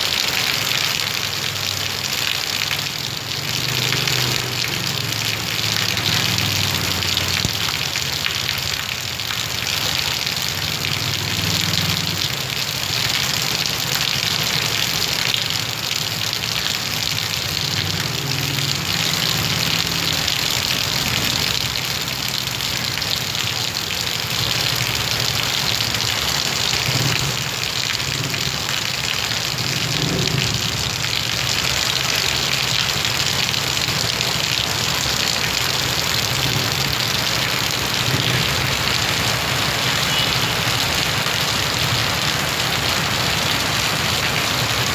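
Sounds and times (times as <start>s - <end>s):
heavy rain hissing: 0.0s - 44.9s
vehicle engines passing: 0.0s - 44.9s.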